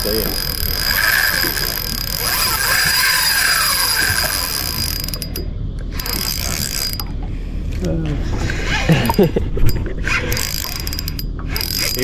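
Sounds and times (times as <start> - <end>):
fishing reel cranking: 0.0 - 7.1, 8.7 - 12.0.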